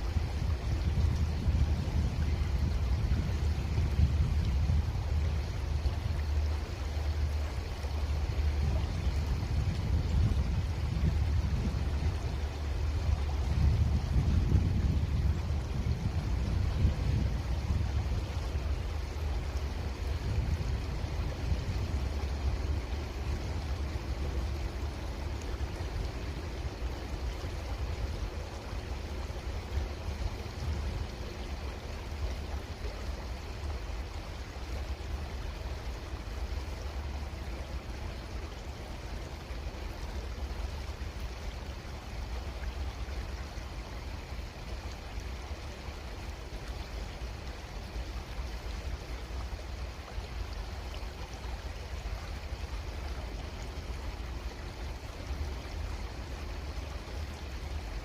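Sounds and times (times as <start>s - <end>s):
creek water flowing: 0.0s - 58.0s.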